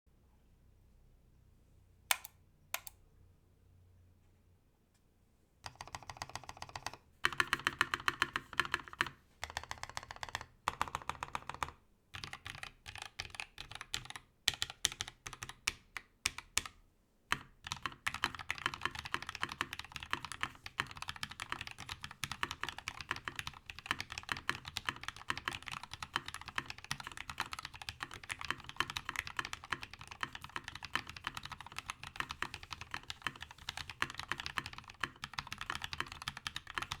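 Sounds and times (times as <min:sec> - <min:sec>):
typing on mechanical keyboard: 0:05.6 - 0:37.0.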